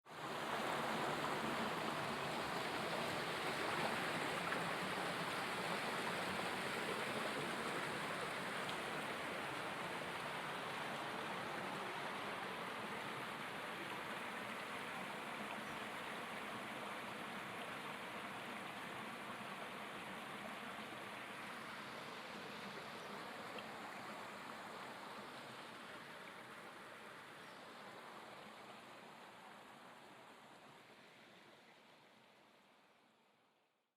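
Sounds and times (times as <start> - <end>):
river water rushing: 0.1 - 32.1.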